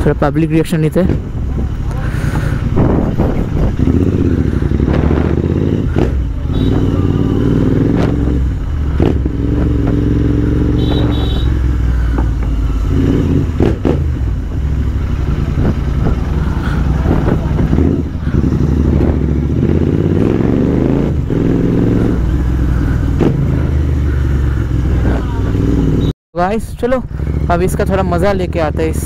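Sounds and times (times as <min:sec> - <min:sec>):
motorcycle engine droning: 0:01.1 - 0:26.1, 0:26.8 - 0:29.0.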